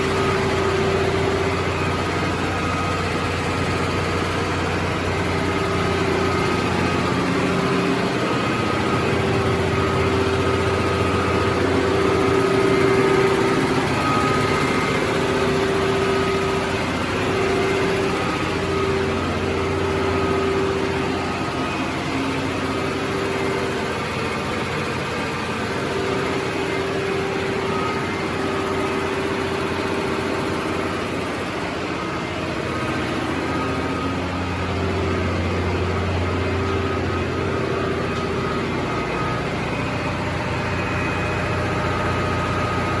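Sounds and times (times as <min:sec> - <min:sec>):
diesel machinery droning: 0:00.0 - 0:43.0.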